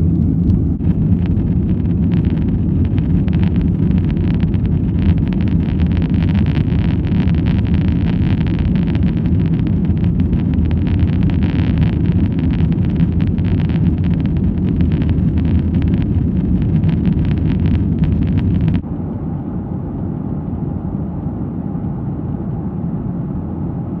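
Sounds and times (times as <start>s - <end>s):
jet engine cabin roar: 0.0s - 24.0s.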